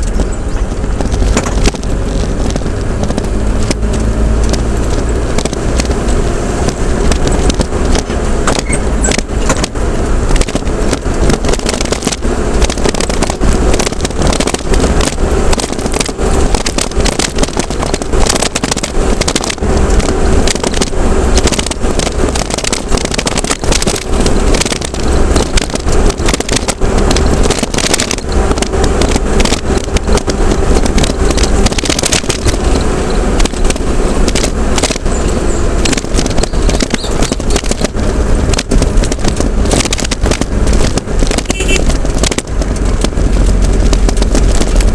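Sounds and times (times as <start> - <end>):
small knocks and rattles: 0.0 - 44.9
vehicle road rumble: 0.0 - 44.9.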